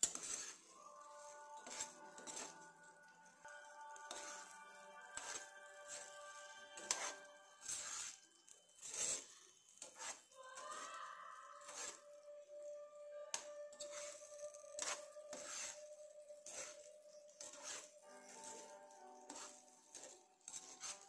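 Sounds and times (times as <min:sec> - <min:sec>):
metal spoon scraping frying pan: 0:00.0 - 0:12.3, 0:13.3 - 0:21.0.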